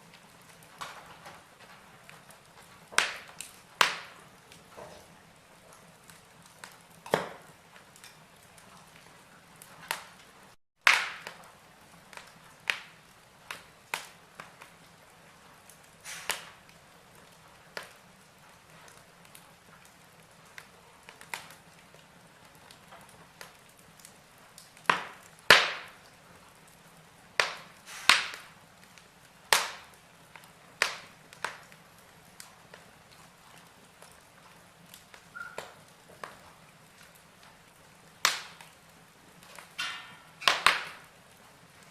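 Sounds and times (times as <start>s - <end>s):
faint steady hiss: 0.0s - 41.9s
logs crackling in fireplace: 0.0s - 41.9s.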